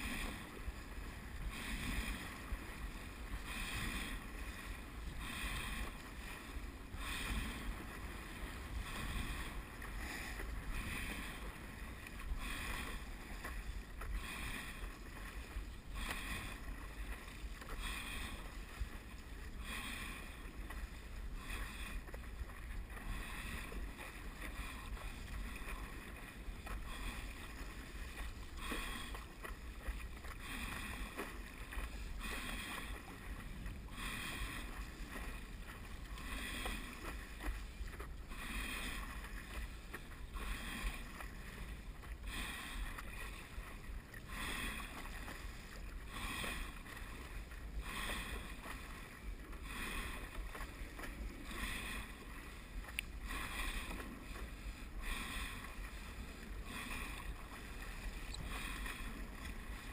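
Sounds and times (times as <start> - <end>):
paddle splashing water: 0.0 - 59.9.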